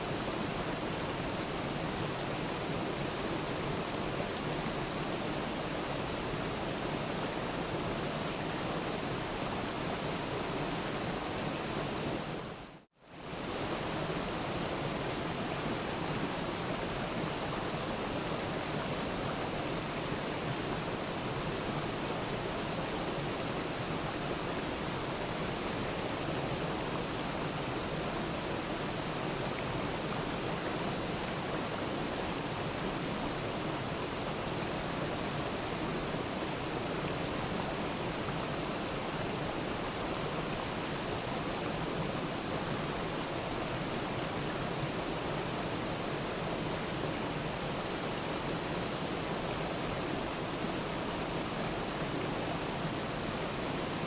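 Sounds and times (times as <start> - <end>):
waterfall rushing water: 0.0 - 54.0.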